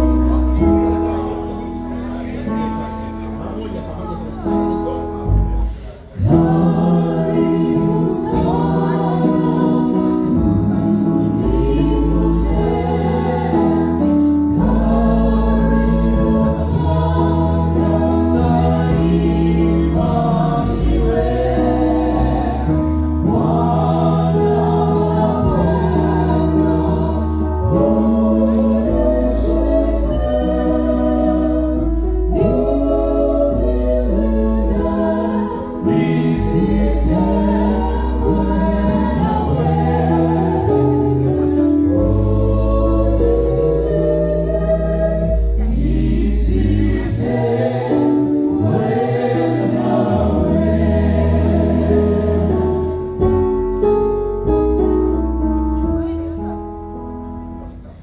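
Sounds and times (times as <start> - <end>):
vocal ensemble singing a hymn: 0.0 - 58.0.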